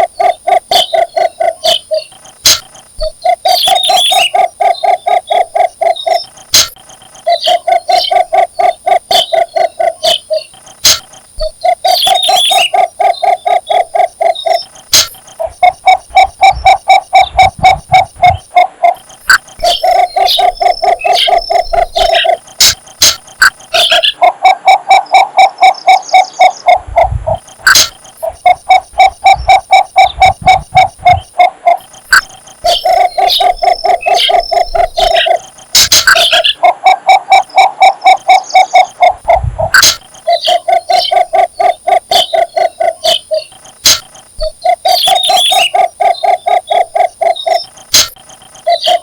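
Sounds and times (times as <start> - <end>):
bittern repeated call notes: 0.0 - 49.0
high bird chirps: 0.0 - 49.0.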